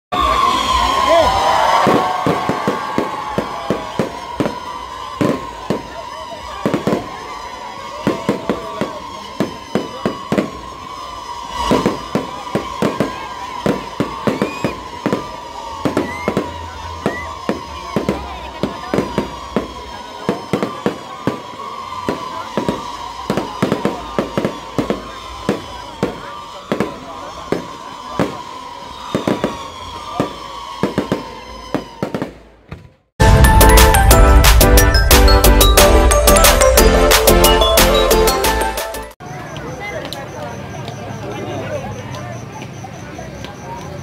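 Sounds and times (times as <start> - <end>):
fireworks bangs: 0.1 - 38.4.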